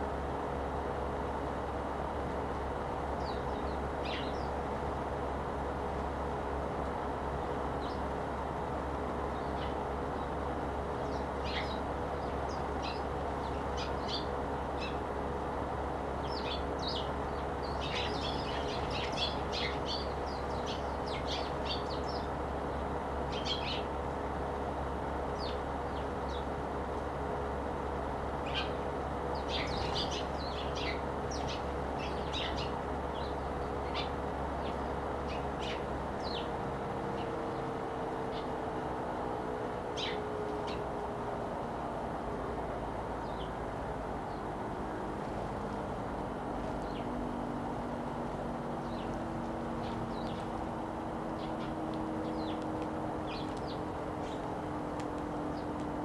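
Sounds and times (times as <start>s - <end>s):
sparrows chirping: 0.0s - 38.8s, 39.8s - 41.0s, 43.1s - 45.7s, 46.6s - 56.0s
steady low hum: 0.0s - 56.0s.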